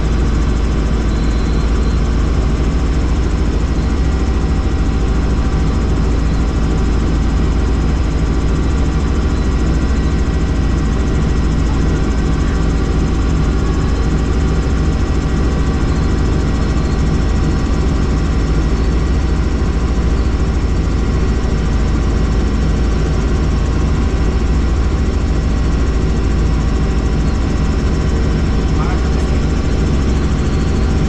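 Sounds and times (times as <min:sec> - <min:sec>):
helicopter rotor and turbine drone: 0:00.0 - 0:31.0.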